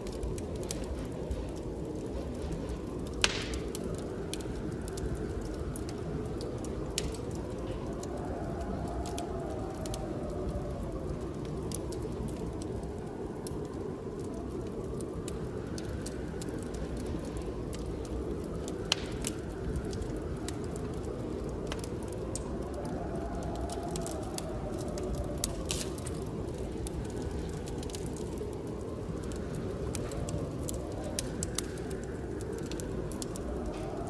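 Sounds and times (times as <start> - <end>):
blizzard wind howling: 0.0 - 34.0
wood fire crackling and popping: 0.0 - 34.0.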